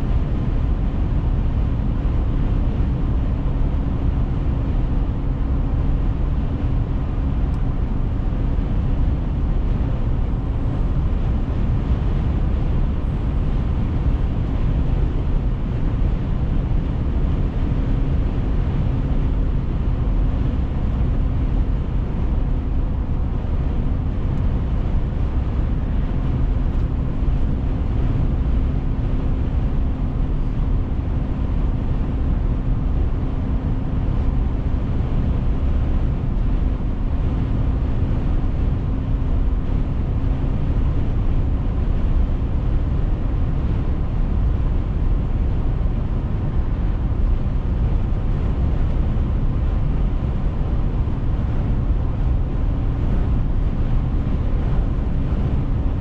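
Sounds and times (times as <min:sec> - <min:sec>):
car interior road drone: 0:00.0 - 0:56.0
faint constant hum: 0:00.0 - 0:56.0.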